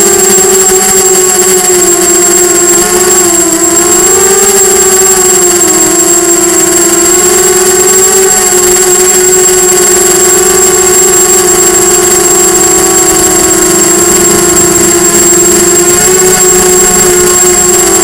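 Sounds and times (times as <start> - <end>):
thin high tone: 0.0 - 8.2, 9.0 - 18.0
quadcopter motors buzzing whine: 0.0 - 18.0.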